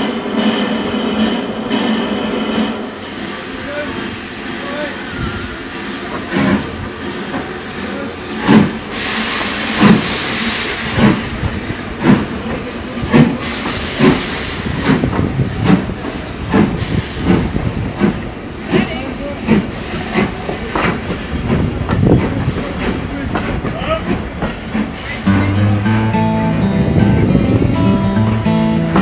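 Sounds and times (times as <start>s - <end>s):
steam hissing: 0.0s - 25.2s
steam locomotive exhaust chuffs: 0.0s - 25.3s.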